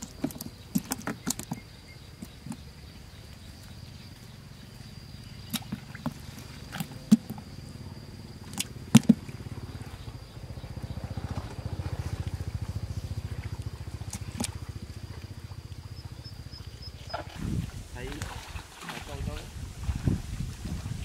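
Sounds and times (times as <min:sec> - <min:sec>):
low pulsing engine hum: 0:00.0 - 0:18.6
high insect drone: 0:00.0 - 0:21.0.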